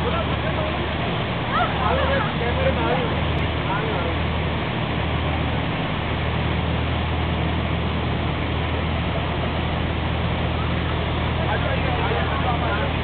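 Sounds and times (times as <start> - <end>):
boat engine droning: 0.0 - 13.0
water rushing along hull: 0.0 - 13.0.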